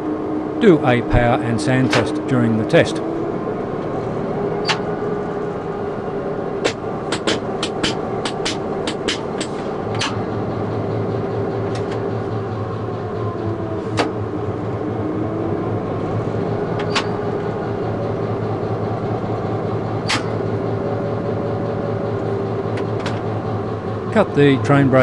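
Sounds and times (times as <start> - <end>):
diesel locomotive engine running: 0.0 - 25.0.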